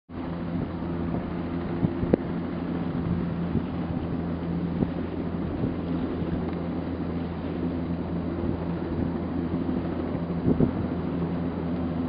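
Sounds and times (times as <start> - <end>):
helicopter engine and rotor hum: 0.1 - 12.0.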